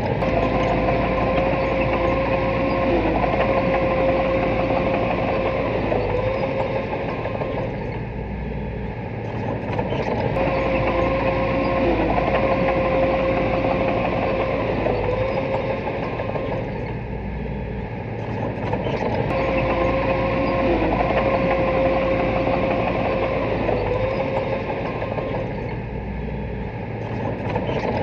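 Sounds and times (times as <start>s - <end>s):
bulldozer diesel engine under load: 0.0s - 28.0s
steady whine: 0.0s - 28.0s.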